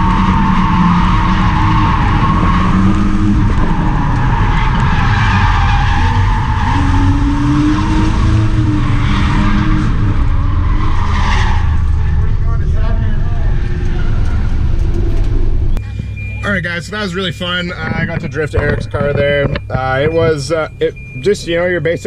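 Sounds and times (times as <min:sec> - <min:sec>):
car engine running: 0:00.0 - 0:22.0
tire squeal: 0:00.0 - 0:22.0.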